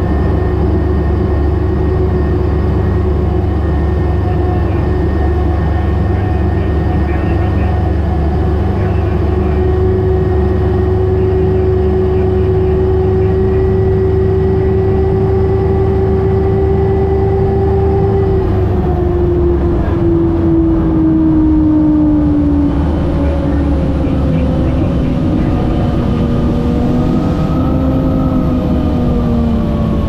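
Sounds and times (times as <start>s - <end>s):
turbine engine whine: 0.0s - 30.0s.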